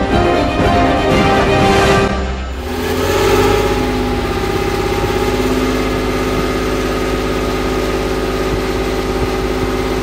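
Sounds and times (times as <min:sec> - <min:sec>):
tank diesel engine running: 0:00.0 - 0:10.0.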